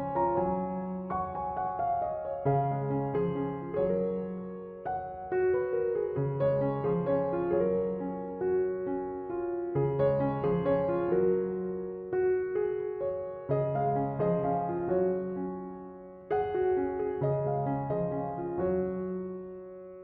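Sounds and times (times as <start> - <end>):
soft piano chords: 0.0 - 20.0.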